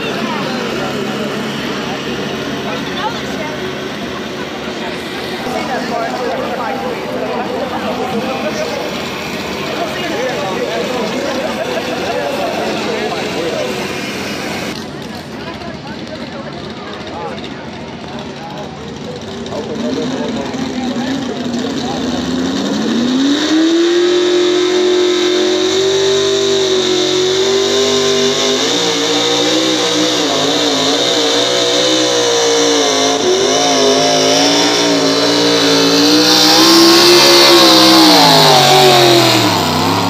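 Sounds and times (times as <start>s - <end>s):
pickup truck engine revving: 0.0s - 40.0s.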